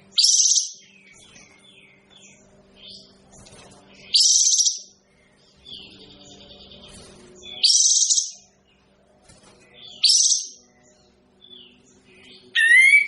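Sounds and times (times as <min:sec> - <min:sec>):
bird chirping calls: 0:00.0 - 0:08.9, 0:09.6 - 0:13.0
faint low hum: 0:00.0 - 0:13.0.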